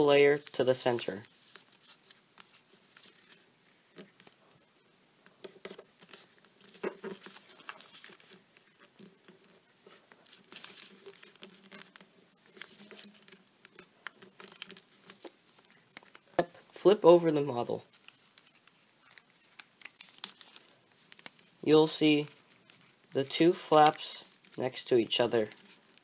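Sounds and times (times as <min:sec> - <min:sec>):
paper folding and creasing: 0:00.0 - 0:26.0.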